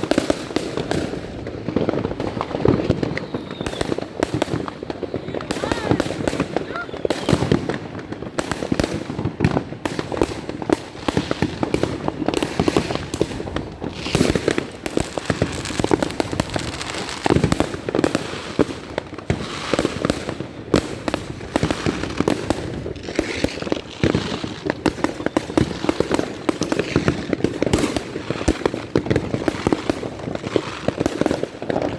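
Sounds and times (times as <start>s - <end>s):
fireworks bangs and crackles: 0.0s - 31.9s
loud fireworks reports: 0.0s - 31.9s.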